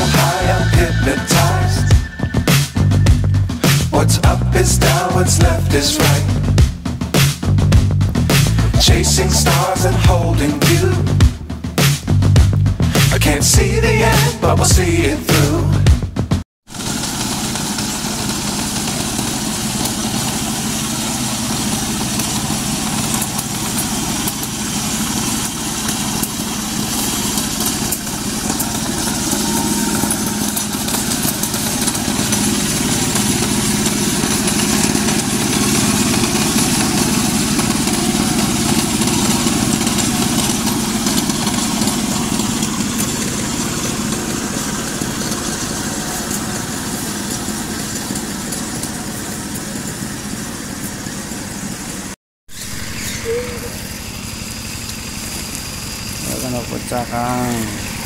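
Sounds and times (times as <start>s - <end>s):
hand tractor engine drone: 0.0s - 15.9s, 16.7s - 58.0s.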